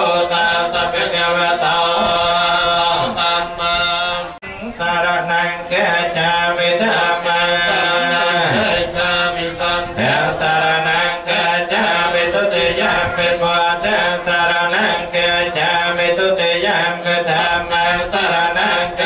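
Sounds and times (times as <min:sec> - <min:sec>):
monks chanting in unison: 0:00.0 - 0:19.0.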